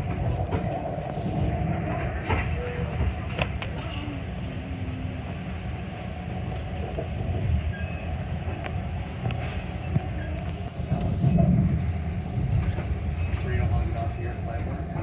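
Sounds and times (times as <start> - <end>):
train car rumbling on track: 0.0 - 15.0.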